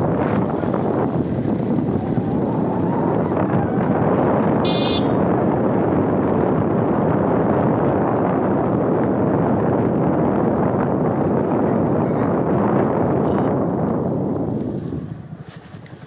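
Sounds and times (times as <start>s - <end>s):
vehicle engine and tyre noise: 0.0s - 16.0s
wind on microphone: 0.0s - 16.0s.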